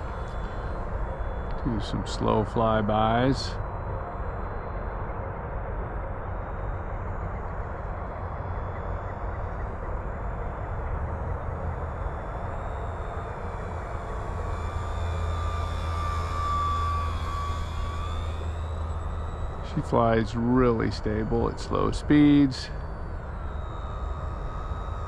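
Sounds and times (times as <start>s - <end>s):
model plane motor whine: 0.0s - 25.0s.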